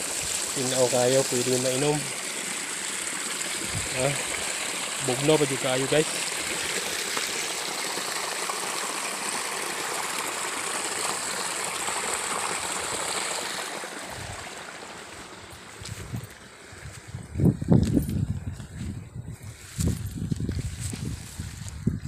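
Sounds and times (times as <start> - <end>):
water pouring and splashing: 0.0 - 18.7.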